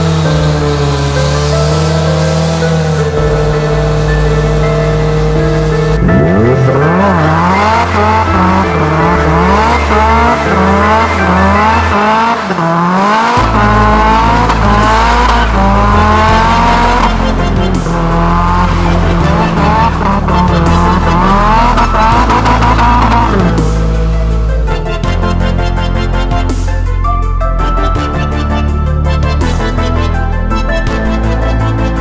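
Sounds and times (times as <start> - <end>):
car engine revving: 0.0 - 32.0
electronic music with bass: 0.0 - 32.0.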